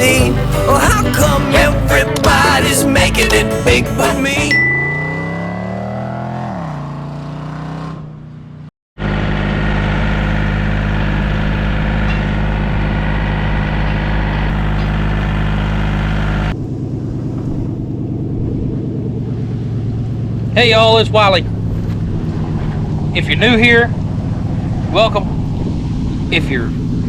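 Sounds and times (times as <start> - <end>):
engine slowing down: 0.0 - 27.0
engine running at steady speed: 4.5 - 27.0.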